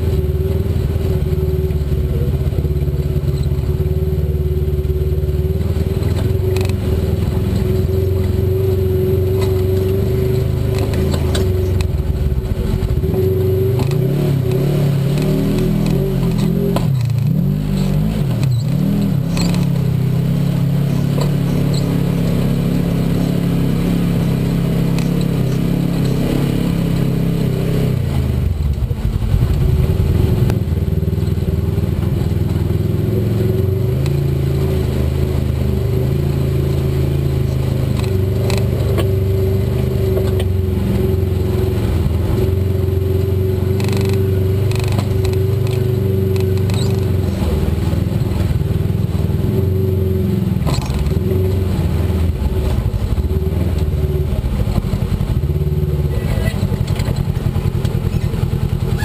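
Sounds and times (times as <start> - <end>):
vehicle engine running at low speed: 0.0 - 59.0.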